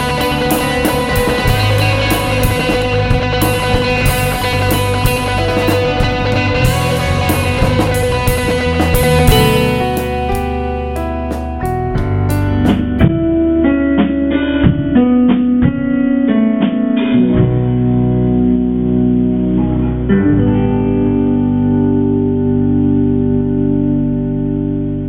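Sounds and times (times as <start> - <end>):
rock guitar playing: 0.0 - 25.0.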